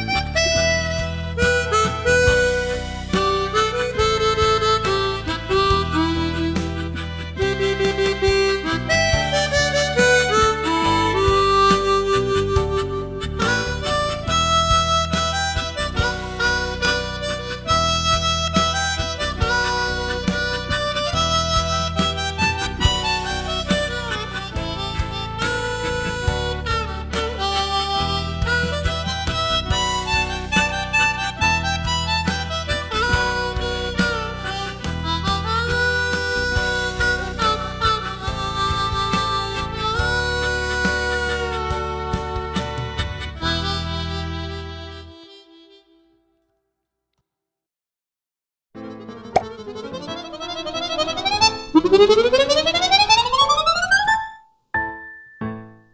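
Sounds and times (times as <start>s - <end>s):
harmonica ensemble playing ballad: 0.0s - 46.1s, 48.8s - 54.4s.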